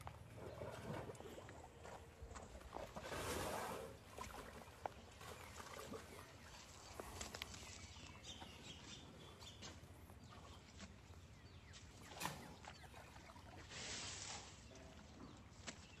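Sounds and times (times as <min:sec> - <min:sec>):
quiet outdoor ambience: 0:00.0 - 0:16.0.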